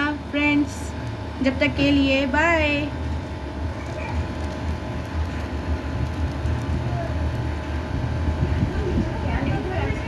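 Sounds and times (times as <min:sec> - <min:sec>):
low rumbling background noise: 0:00.0 - 0:10.0.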